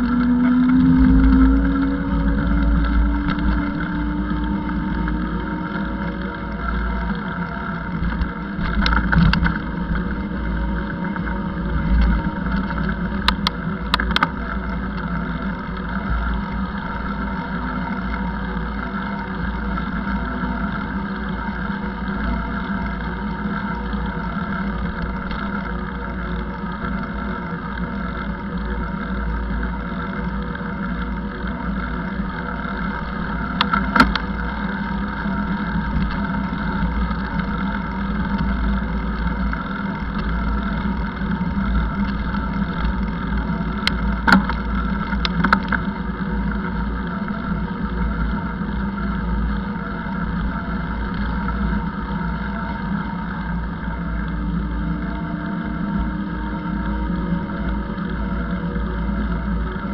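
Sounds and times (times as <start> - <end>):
vehicle rumble and hum: 0.0 - 59.9.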